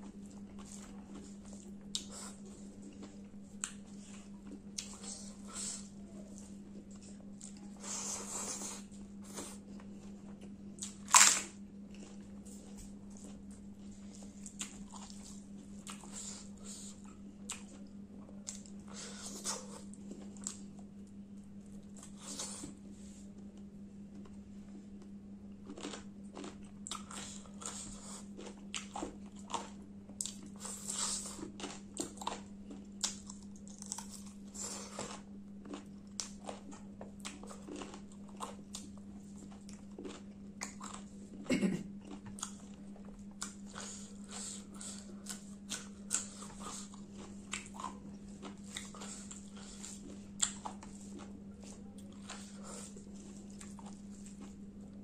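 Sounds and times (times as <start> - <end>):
person chewing with wet smacks: 0.0 - 22.8, 23.4 - 55.0.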